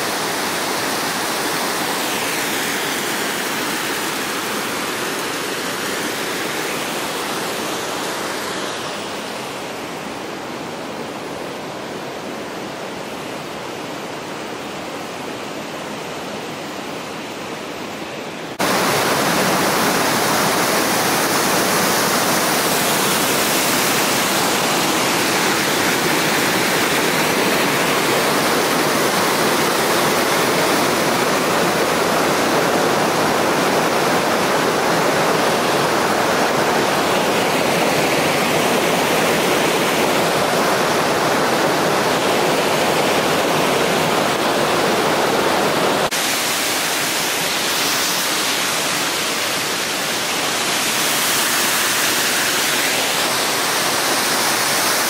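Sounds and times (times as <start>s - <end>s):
stream rushing over boulders: 0.0s - 55.0s.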